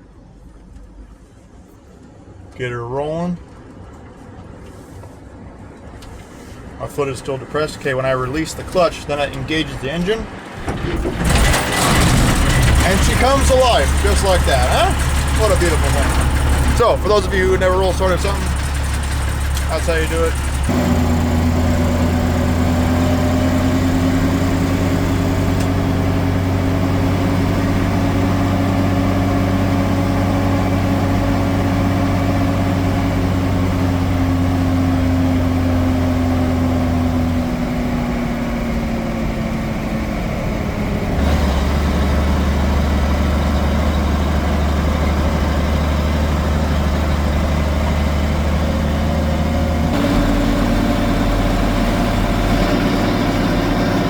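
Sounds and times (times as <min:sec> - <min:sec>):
truck engine running: 0:08.3 - 0:54.0.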